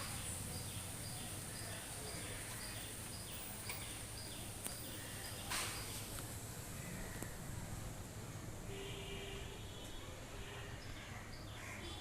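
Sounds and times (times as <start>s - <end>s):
background hiss: 0.0s - 11.6s.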